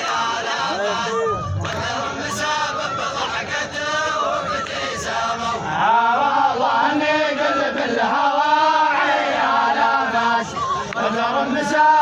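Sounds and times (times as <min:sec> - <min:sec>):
voices chanting together: 0:00.0 - 0:12.0.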